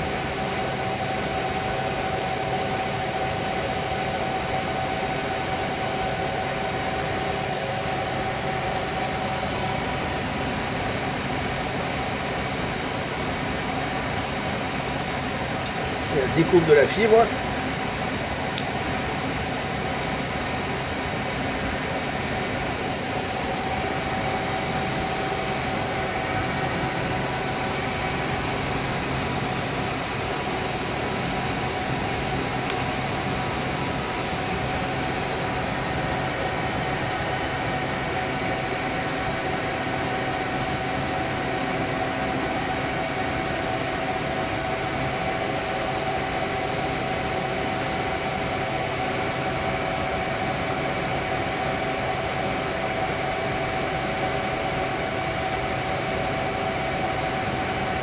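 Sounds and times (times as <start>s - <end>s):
fan hum: 0.0s - 58.0s.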